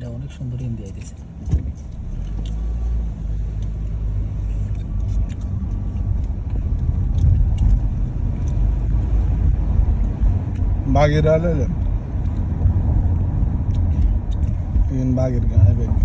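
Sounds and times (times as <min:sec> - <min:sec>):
car driving road noise: 0:00.0 - 0:16.0.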